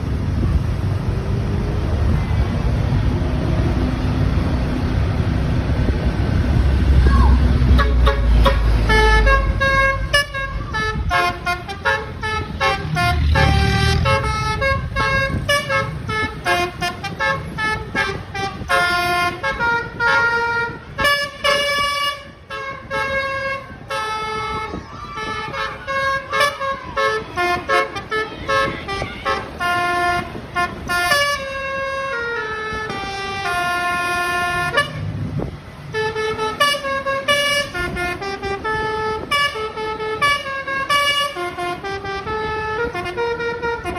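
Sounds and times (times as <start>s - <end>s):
low engine rumble: 0.0s - 43.9s
bus air horn playing tune: 7.2s - 43.9s.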